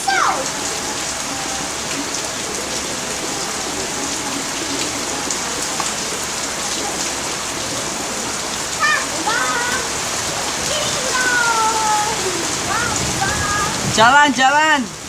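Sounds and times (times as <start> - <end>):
rain on a hard surface: 0.0 - 15.0.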